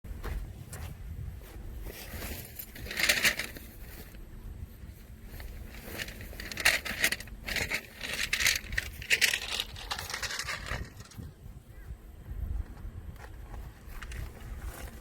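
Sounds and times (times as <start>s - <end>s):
rustling and crinkling: 0.1s - 11.5s, 12.6s - 15.0s.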